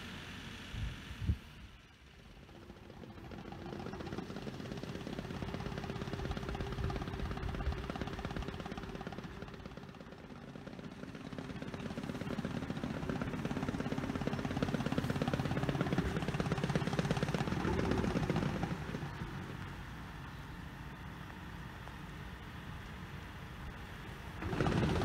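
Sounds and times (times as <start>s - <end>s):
reed cutter engine chugging: 0.0s - 25.0s.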